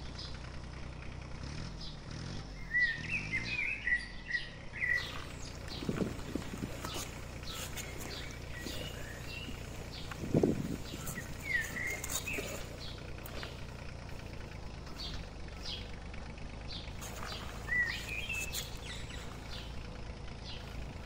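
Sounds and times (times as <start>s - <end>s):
small birds chirping: 0.0s - 0.5s, 1.8s - 21.0s.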